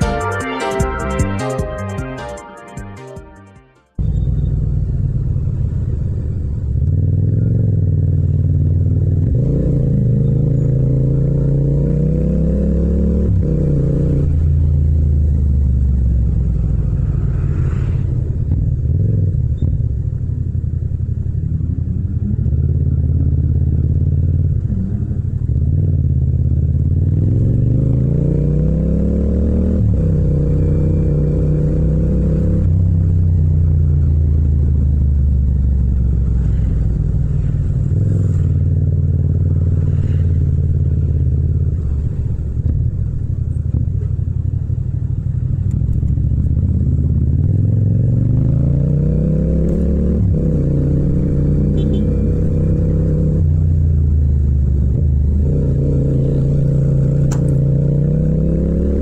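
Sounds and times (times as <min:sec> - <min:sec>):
motorcycle engine revving: 0:04.0 - 0:59.0.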